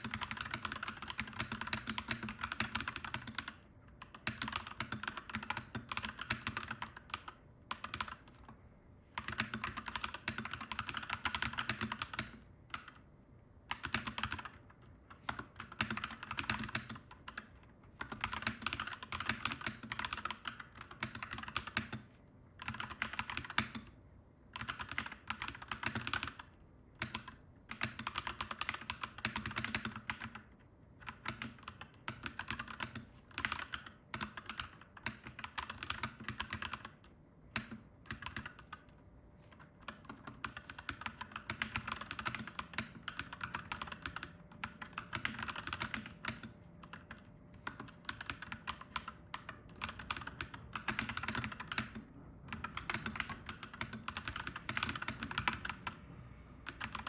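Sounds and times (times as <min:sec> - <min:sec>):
mechanical keyboard typing: 0:00.0 - 0:56.0, 0:56.6 - 0:57.0.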